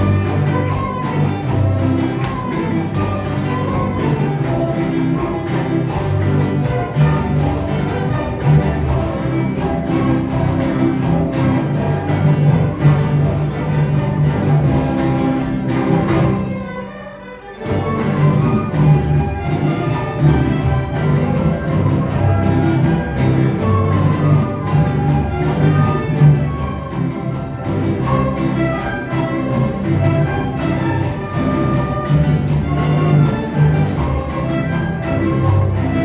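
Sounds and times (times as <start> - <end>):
orchestra playing cumbia: 0.0 - 36.0.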